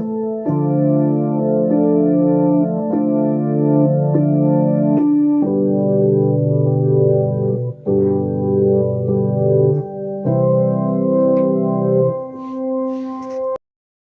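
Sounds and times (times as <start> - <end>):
organ-tone keyboard chords: 0.0 - 13.6.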